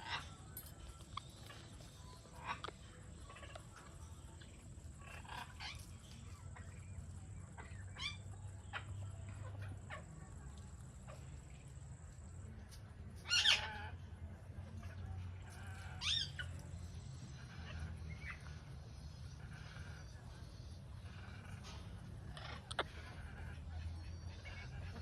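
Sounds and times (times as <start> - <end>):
parakeet chirps and squawks: 0.0 - 11.6, 13.2 - 14.1, 14.8 - 25.0.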